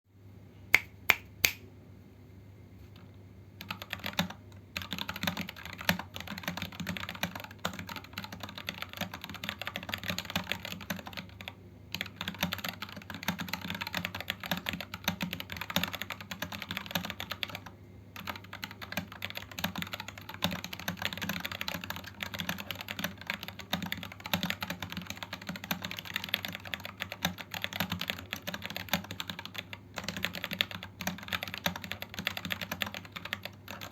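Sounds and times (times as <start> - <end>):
mechanical keyboard typing: 3.6 - 33.9.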